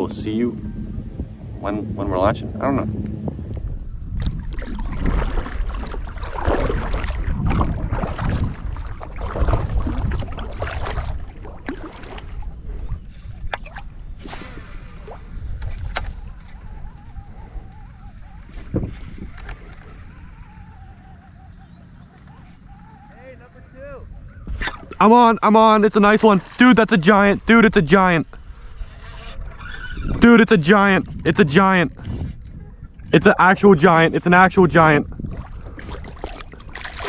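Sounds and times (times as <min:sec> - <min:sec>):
water sloshing against kayak: 0:03.3 - 0:37.0.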